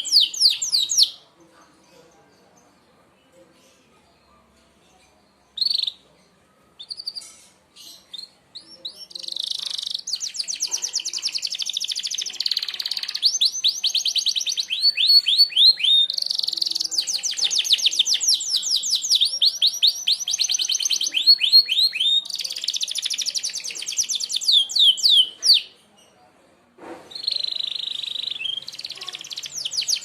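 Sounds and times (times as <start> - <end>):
canary singing trills: 0.0 - 1.2, 5.0 - 6.1, 6.8 - 25.8, 27.1 - 30.0.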